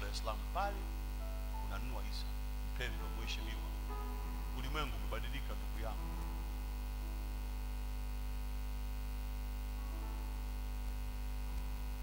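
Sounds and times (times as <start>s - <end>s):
electrical mains hum: 0.0s - 12.0s
soft background music chords: 0.0s - 12.0s.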